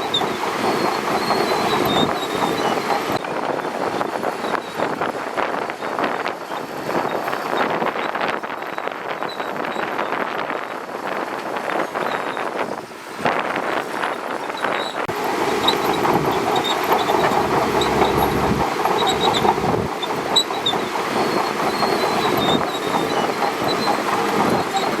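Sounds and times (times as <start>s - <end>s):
bulldozer engine rumble: 0.0s - 10.0s, 13.9s - 25.0s
steel tracks clattering: 0.0s - 12.5s, 13.3s - 25.0s.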